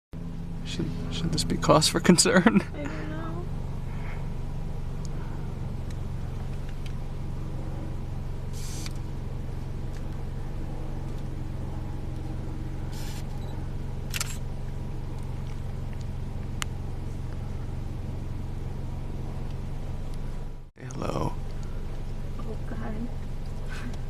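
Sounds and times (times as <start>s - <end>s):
van engine idling: 0.2s - 24.0s.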